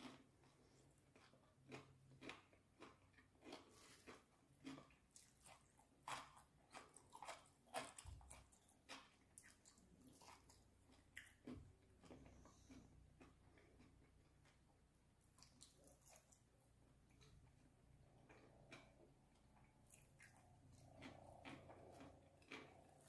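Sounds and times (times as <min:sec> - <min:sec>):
chewing and wet mouth clicks: 0:01.0 - 0:14.6, 0:15.2 - 0:23.0.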